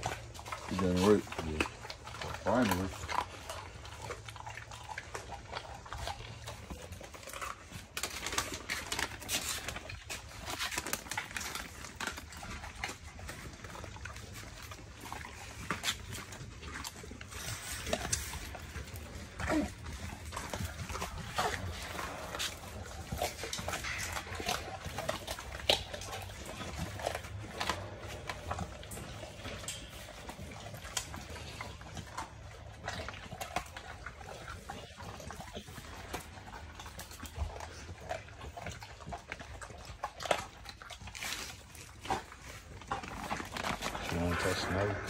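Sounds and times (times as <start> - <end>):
dogs chewing bones: 0.0 - 45.0.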